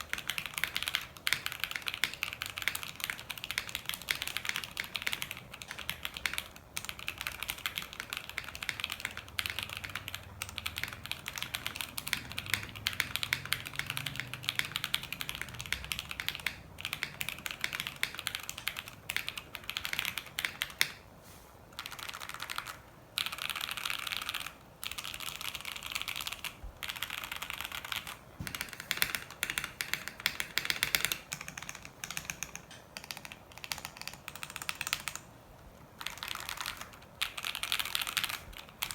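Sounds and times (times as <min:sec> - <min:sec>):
mechanical keyboard typing: 0:00.0 - 0:21.0, 0:21.7 - 0:35.3, 0:35.9 - 0:38.9.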